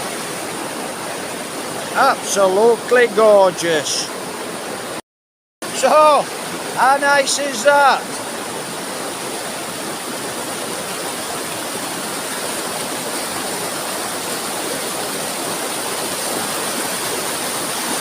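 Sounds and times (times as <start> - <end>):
waterfall rushing: 0.0 - 5.0, 5.6 - 18.0.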